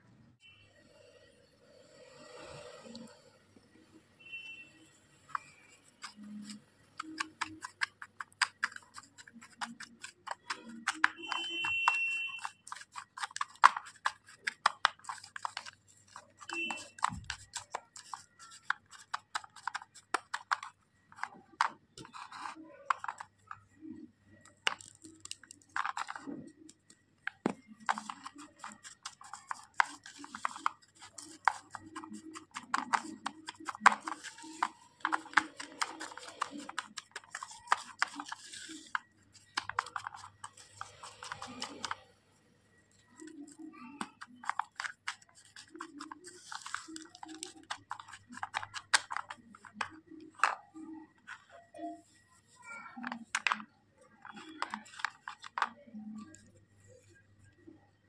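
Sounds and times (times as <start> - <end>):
plastic spatula scraping a pot: 5.3 - 42.0, 42.9 - 57.2.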